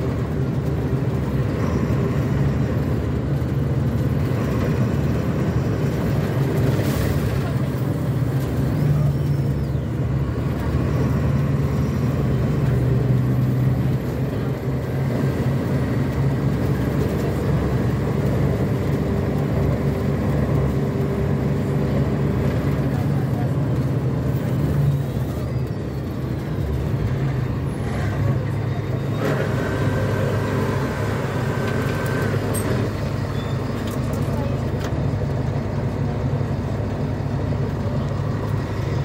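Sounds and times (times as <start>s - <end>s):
bus diesel engine humming: 0.0s - 39.0s.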